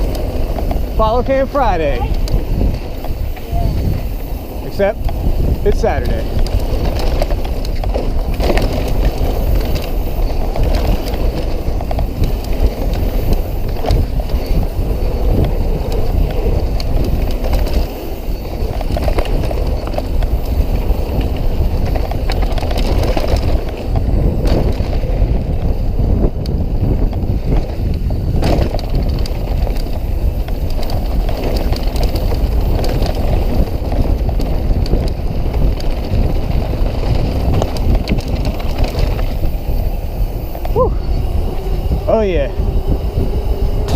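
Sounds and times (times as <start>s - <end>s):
bike rattling and knocking: 0.0s - 43.9s
tyre and wind rush: 0.0s - 43.9s.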